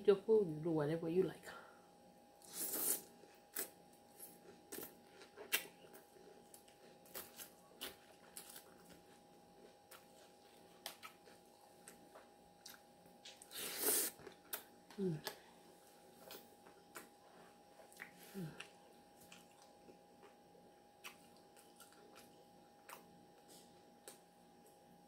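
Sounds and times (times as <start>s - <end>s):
faint steady hum: 0.0s - 25.0s
person chewing lettuce: 2.4s - 15.4s, 16.0s - 24.2s.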